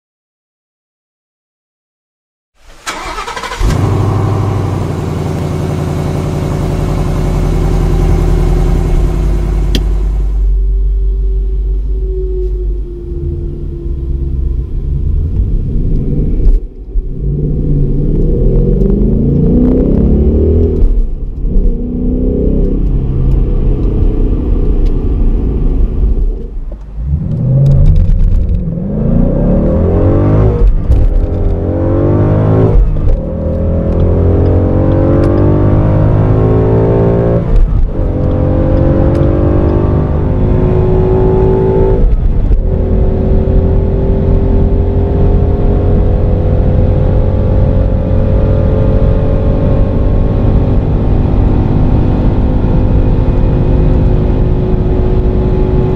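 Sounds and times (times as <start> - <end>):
car engine at full throttle: 2.8 - 55.9.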